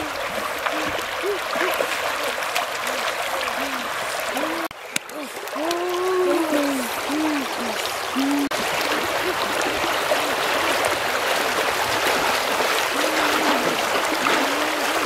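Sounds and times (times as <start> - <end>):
children splashing in water: 0.0 - 15.0
river water rushing: 0.0 - 15.0.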